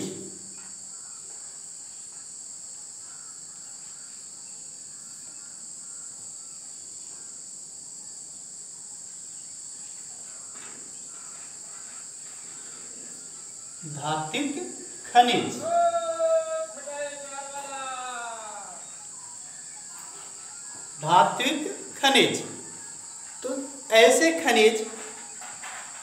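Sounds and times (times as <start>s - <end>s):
high-pitched hiss: 0.0s - 26.0s.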